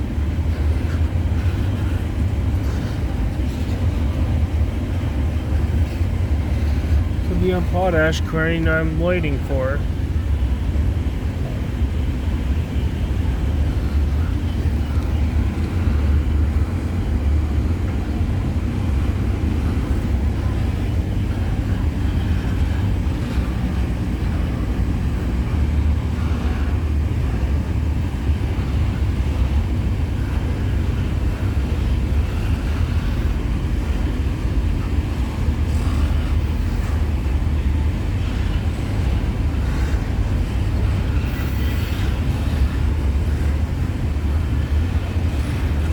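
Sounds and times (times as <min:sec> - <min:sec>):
distant freight train rumble: 0:00.0 - 0:45.9.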